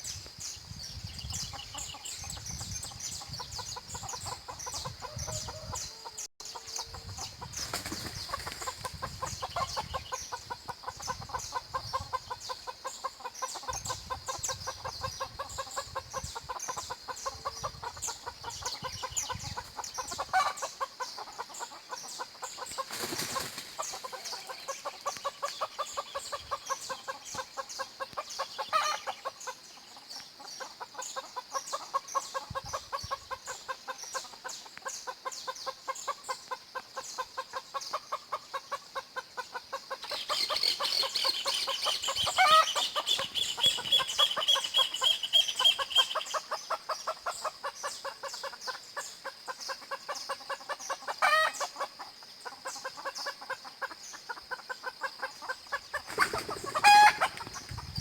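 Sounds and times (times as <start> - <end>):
high birdsong trill: 0.0 - 38.8, 39.4 - 54.6
birds singing: 0.0 - 58.0
chickens clucking: 1.5 - 58.0.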